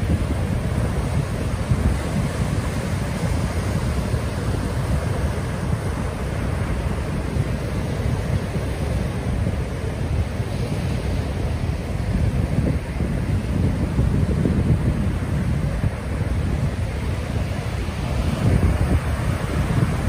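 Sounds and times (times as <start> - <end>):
small waves breaking on sand: 0.0 - 20.0.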